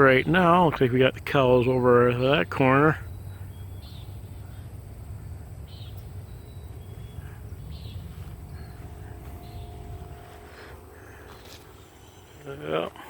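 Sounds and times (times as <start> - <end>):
low rumble of wind: 0.0 - 13.0
faint bird chirps: 2.1 - 13.0.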